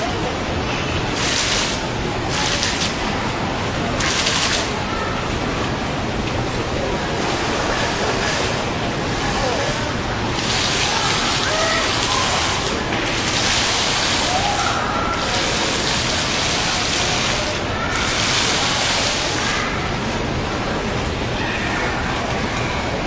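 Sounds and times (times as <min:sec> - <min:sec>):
water fountain splashing: 0:00.1 - 0:23.0.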